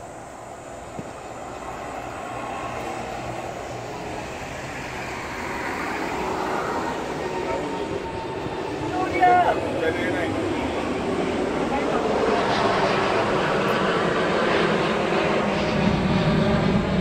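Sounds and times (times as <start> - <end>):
jet aircraft passing overhead: 0.0 - 17.0.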